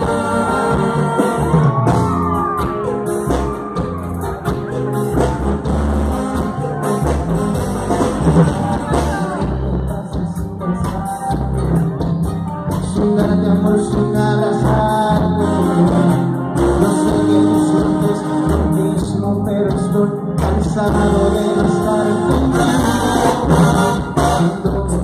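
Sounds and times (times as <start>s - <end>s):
live band with singers: 0.0s - 25.0s.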